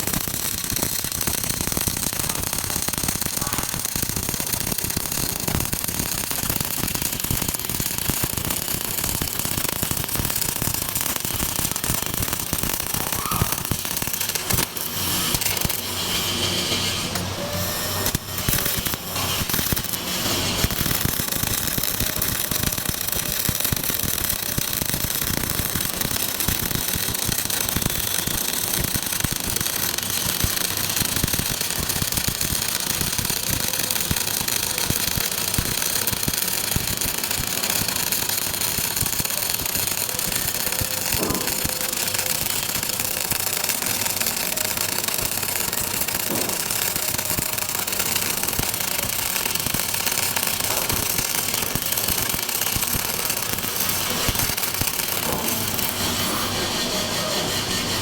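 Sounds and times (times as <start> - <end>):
arc welding crackle: 0.0 - 58.0.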